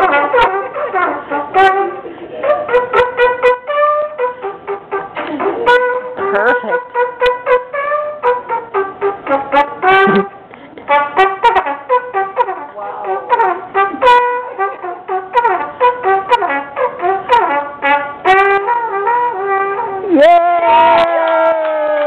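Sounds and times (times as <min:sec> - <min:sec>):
solo trumpet melody: 0:00.0 - 0:20.2.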